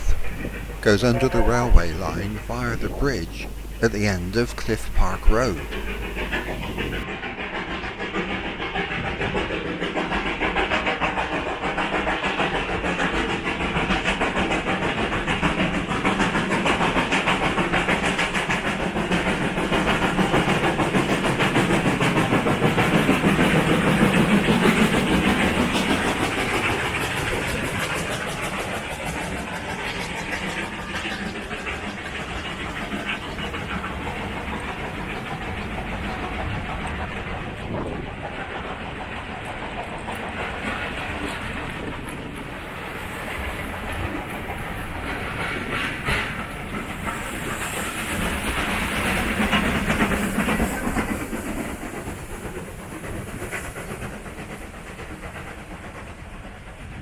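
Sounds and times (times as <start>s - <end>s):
train wheels clattering on track: 0.0s - 57.0s.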